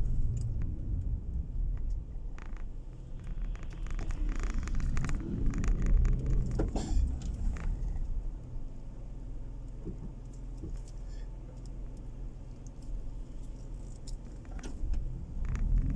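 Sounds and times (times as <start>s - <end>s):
engine and tyre rumble: 0.0s - 15.9s.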